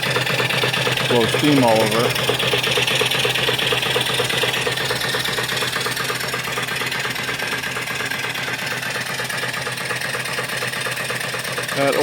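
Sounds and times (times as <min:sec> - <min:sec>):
steam engine rhythmic clatter: 0:00.0 - 0:12.0.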